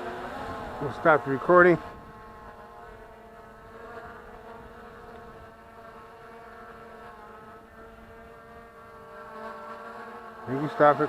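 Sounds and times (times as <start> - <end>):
quadcopter propellers buzzing: 0.0 - 11.0.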